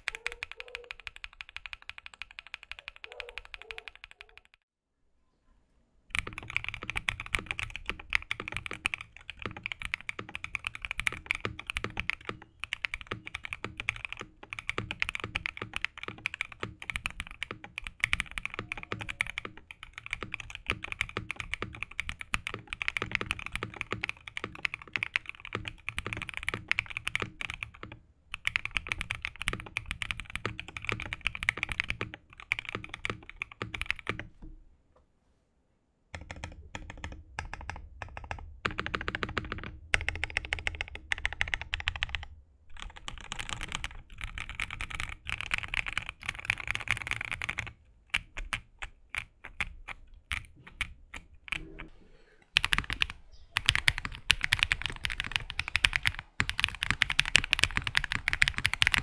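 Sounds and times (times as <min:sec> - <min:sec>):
mechanical keyboard typing: 0:00.0 - 0:04.6, 0:06.1 - 0:34.3, 0:36.1 - 0:51.9, 0:52.6 - 0:59.0.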